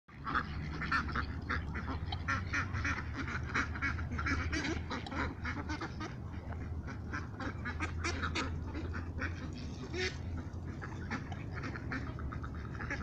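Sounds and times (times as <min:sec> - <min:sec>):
ducks quacking: 0:00.1 - 0:13.0.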